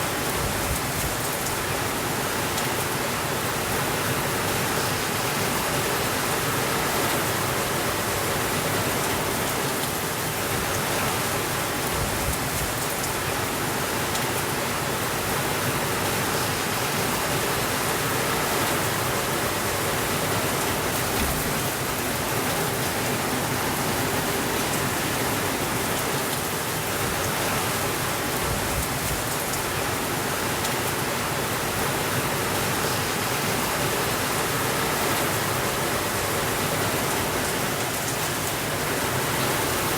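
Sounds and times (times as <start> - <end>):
heavy rain against a window: 0.0 - 39.9.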